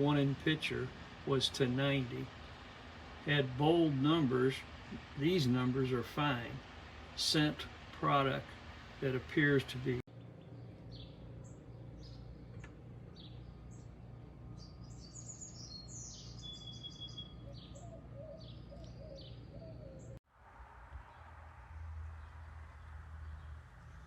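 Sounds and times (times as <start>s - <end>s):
small birds chirping and trilling: 0.0s - 20.2s, 22.0s - 24.0s
low steady hum: 0.0s - 24.0s.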